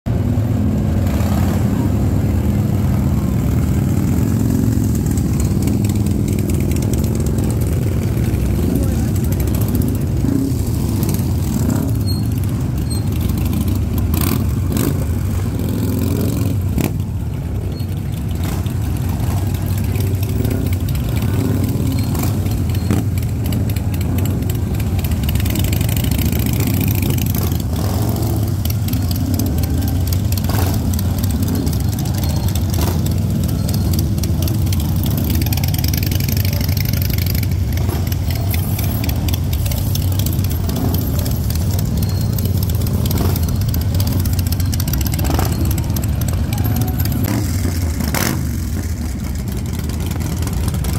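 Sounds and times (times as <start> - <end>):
vehicle engines running: 0.1 - 50.9.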